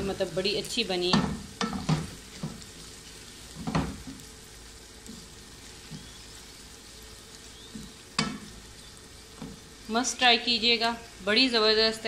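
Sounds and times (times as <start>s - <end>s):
okra frying in oil: 0.0s - 12.0s.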